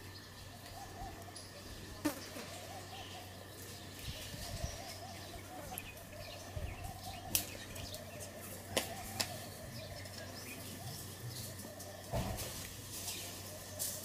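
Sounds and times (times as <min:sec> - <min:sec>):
faint outdoor hum: 0:00.0 - 0:14.0.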